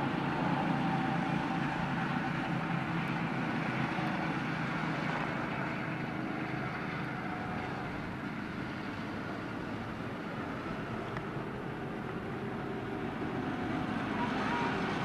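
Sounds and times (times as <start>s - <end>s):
go-kart engine driving past: 0.0s - 15.0s.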